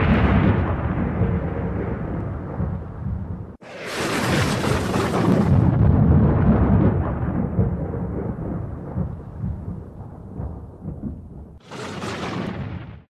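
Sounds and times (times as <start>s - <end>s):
thunder-like boom: 0.0s - 13.0s.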